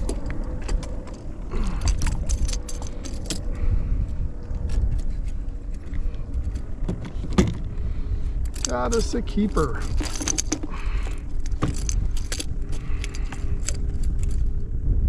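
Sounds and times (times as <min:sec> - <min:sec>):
gear clicks and rattles: 0:00.0 - 0:14.6
wind rumbling on microphone: 0:00.0 - 0:15.0.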